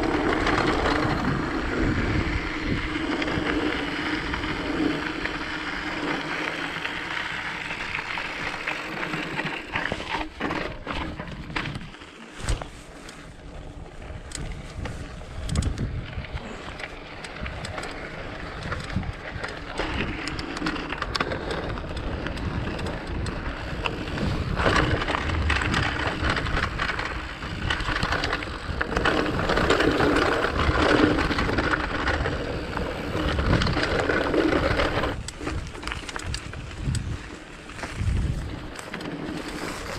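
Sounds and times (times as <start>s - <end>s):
bike rattling: 0.0s - 39.9s
tyres crunching on gravel: 0.0s - 39.9s
wind noise on microphone: 0.0s - 39.9s.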